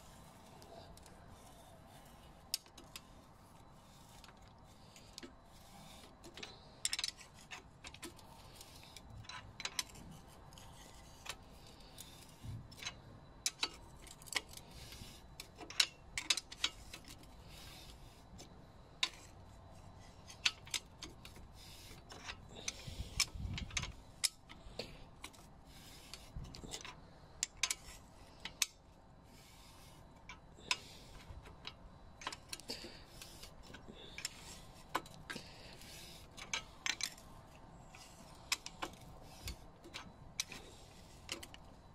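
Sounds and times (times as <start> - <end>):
metal wrench clicks and scrapes: 0.0 - 41.9.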